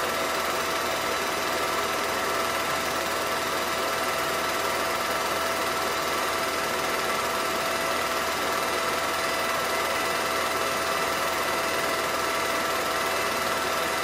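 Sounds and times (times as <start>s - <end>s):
film projector whirring: 0.0s - 14.0s.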